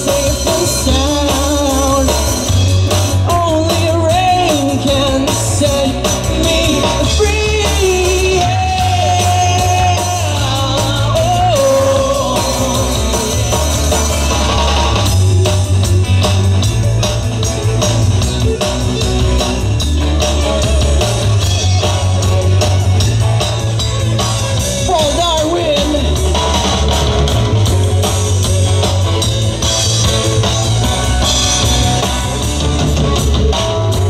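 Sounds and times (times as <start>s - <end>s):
electric guitar lead line: 0.0s - 34.0s
rock band playing live: 0.0s - 34.0s.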